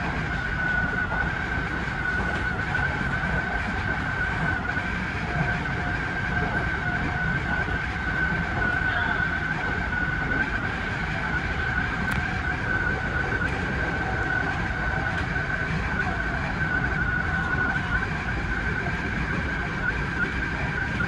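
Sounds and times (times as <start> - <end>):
high whine: 0.0 - 21.0
train wheels rumbling: 0.0 - 21.0.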